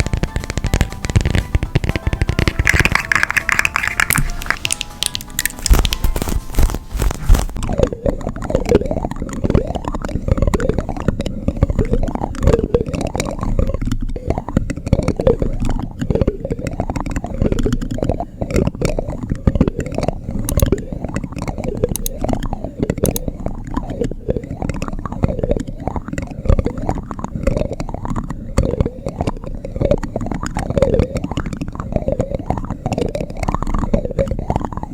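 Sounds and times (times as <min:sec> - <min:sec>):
small clicks: 0:00.0 - 0:34.9
spoon scraping microphone: 0:00.0 - 0:34.9.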